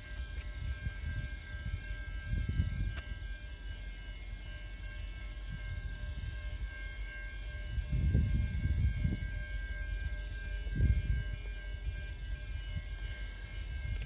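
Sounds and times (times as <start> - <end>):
high-pitched whine: 0.0 - 14.0
train rumbling: 0.0 - 14.0.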